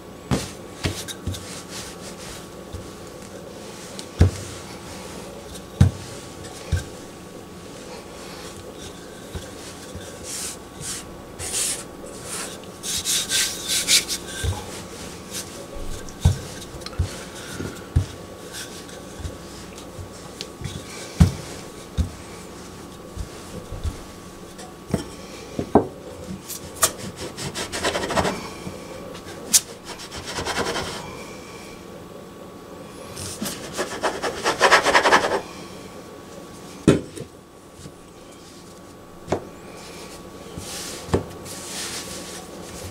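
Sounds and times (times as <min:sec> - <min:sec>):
rolling pin rubbing on dough: 0:00.3 - 0:25.2, 0:26.6 - 0:31.2, 0:33.2 - 0:35.5, 0:39.8 - 0:42.9.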